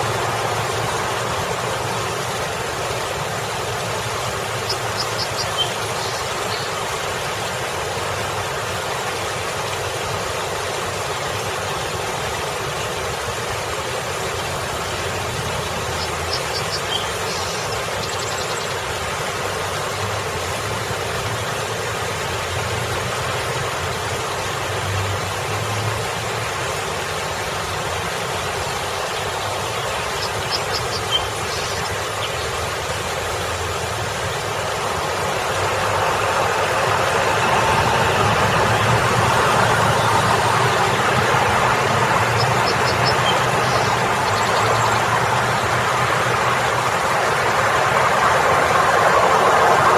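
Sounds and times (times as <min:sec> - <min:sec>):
small waterfall splashing: 0:00.0 - 0:49.9
traffic hum: 0:00.0 - 0:49.9.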